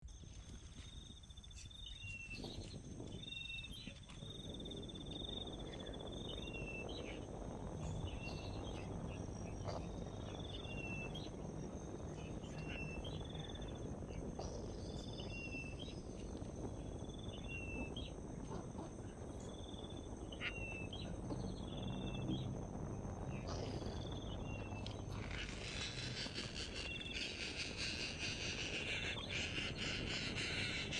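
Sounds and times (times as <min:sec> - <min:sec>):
insects chirring: 0:00.0 - 0:30.9
low outdoor rumble: 0:00.0 - 0:30.9.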